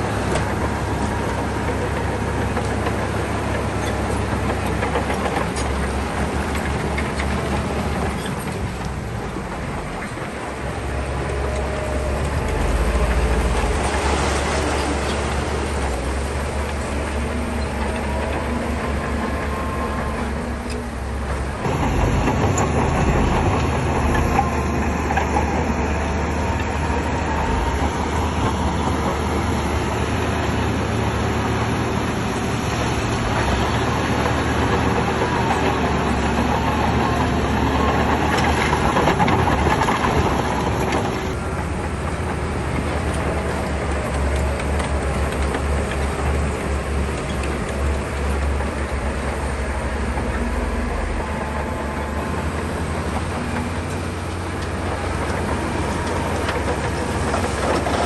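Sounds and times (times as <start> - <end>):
bulldozer diesel engine: 0.0 - 58.0
steel tracks clanking and squealing: 0.0 - 58.0.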